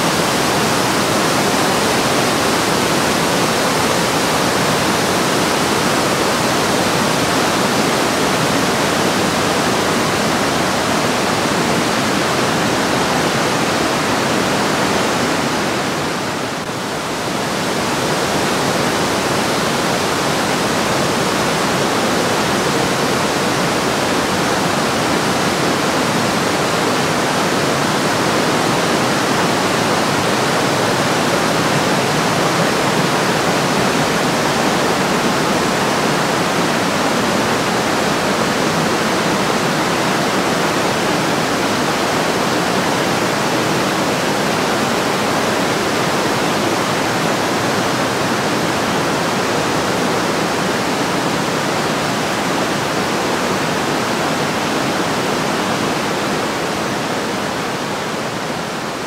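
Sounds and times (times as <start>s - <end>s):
river rushing over boulders: 0.0s - 59.0s.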